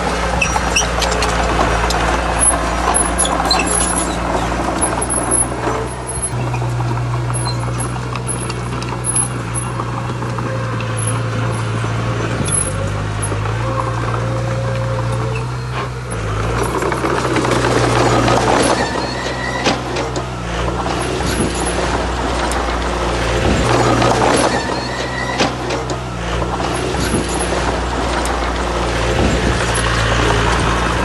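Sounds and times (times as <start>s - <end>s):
metal clanks: 0.0s - 30.9s
diesel earthmoving machinery: 0.0s - 31.0s
rushing grinding noise: 0.0s - 31.0s.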